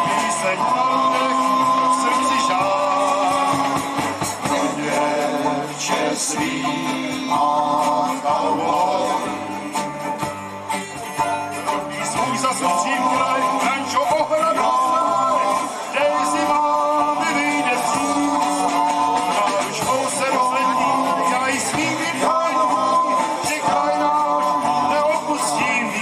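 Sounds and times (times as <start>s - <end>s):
folk-country band playing: 0.0s - 26.0s.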